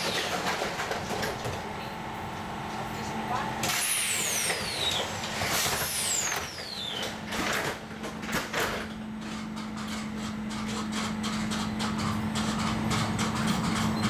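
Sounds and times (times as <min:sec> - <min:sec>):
tram doors sliding shut: 0:00.0 - 0:02.1, 0:03.6 - 0:14.0
electrical hum of tram: 0:00.0 - 0:14.0.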